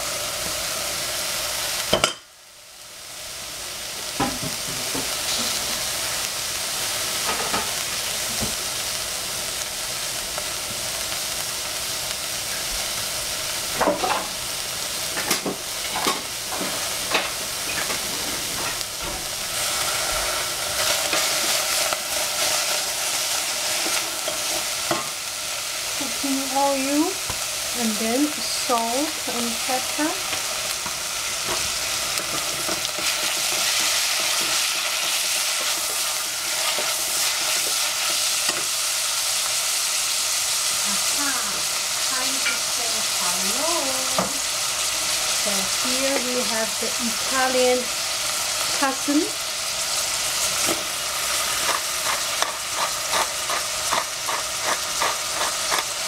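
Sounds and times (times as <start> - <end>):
peppers sizzling in pot: 0.0 - 56.0.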